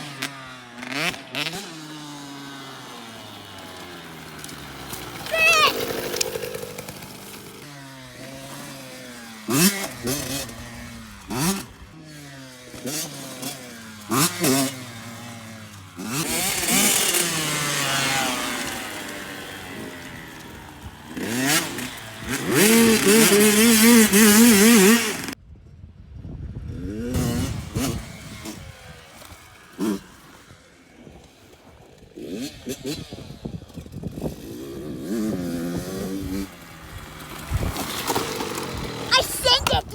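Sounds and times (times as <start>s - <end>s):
dirt bike engines revving: 0.0s - 25.4s, 26.7s - 39.9s.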